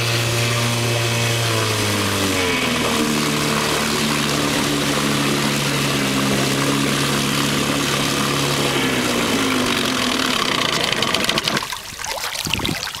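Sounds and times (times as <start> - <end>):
outboard motor running: 0.0 - 11.9.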